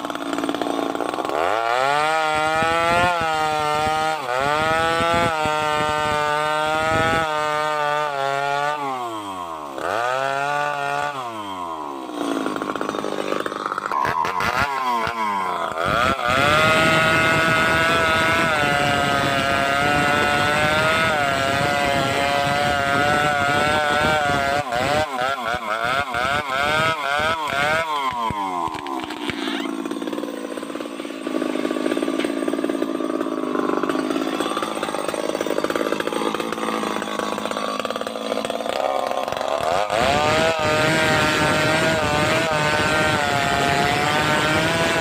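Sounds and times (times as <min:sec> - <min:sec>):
chainsaw revving: 0:00.0 - 0:45.0.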